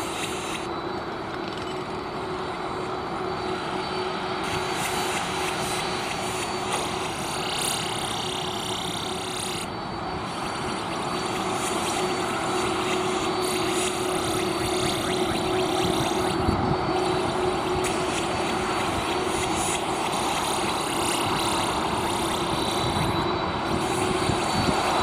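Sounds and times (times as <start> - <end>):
jet engines taxiing: 0.0 - 25.0.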